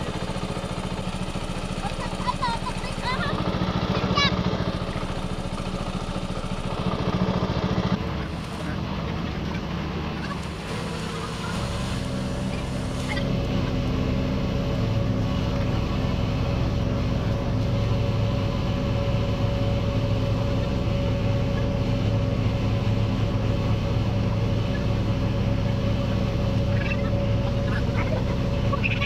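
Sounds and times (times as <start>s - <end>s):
water pump engine running: 0.0s - 29.0s.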